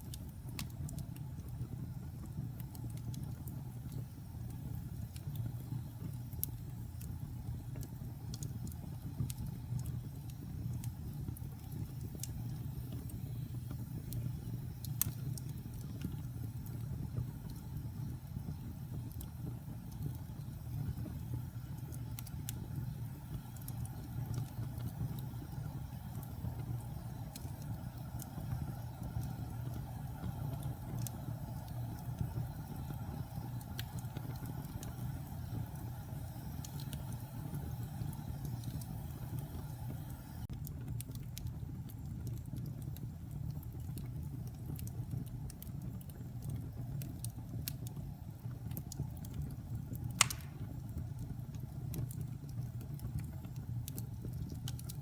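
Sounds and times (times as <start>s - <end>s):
fire crackling and popping: 0.0s - 55.0s
logs burning in fireplace: 0.0s - 55.0s.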